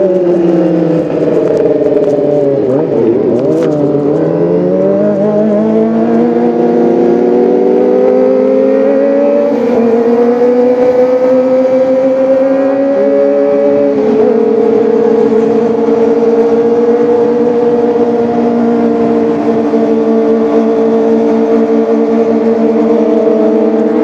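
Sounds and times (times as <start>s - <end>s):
motorcycle engine revving high: 0.0s - 24.0s.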